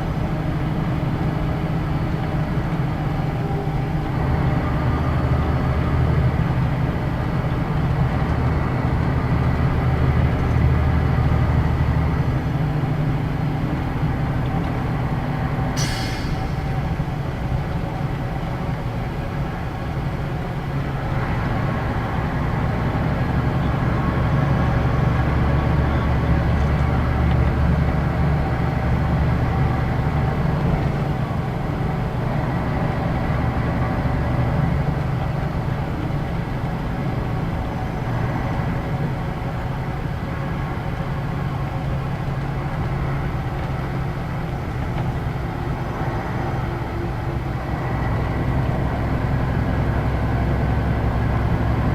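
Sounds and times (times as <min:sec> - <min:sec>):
bus diesel engine drone: 0:00.0 - 0:51.9.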